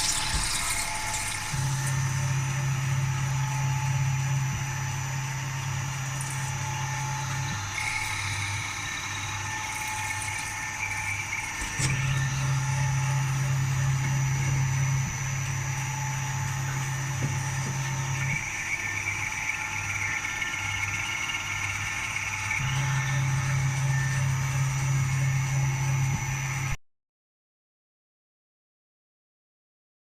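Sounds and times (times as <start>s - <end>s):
low steady hum: 0.0s - 26.8s
milling machine high whine: 0.0s - 26.8s.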